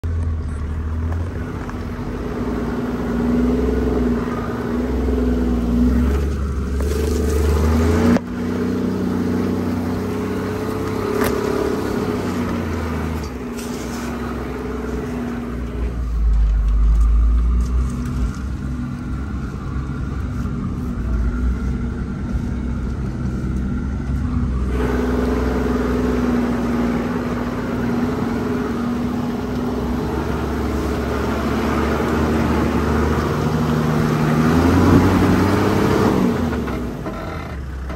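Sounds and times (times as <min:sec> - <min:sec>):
vehicle engine rumbling: 0:00.0 - 0:37.9.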